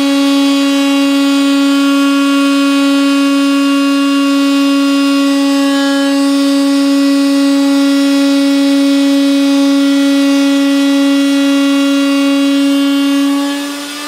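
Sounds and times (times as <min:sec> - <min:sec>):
electric router cutting wood: 0:00.0 - 0:14.0.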